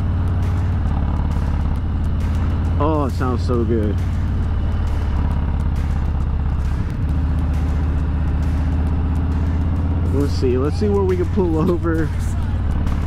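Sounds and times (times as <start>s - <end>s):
motorcycle engine riding: 0.0s - 13.0s.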